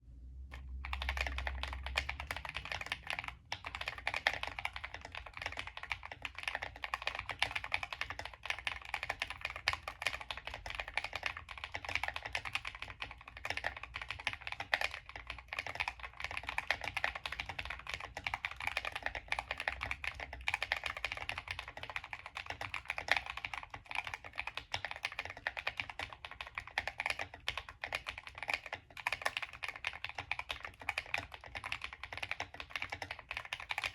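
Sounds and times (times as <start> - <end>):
mechanical keyboard typing: 0.5 - 33.9.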